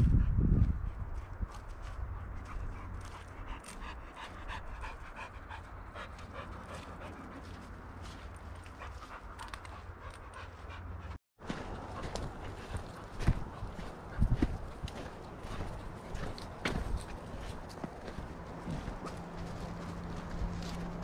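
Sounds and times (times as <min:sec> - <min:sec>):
dog panting: 0:00.8 - 0:21.0.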